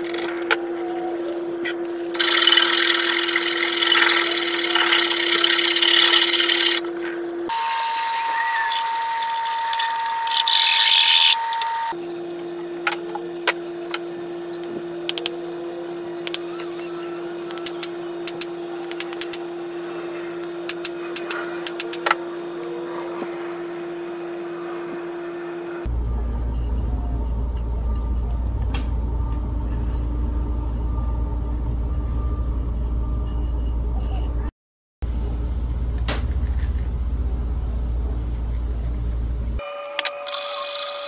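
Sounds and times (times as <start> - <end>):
steady low hum: 0.0 - 39.6.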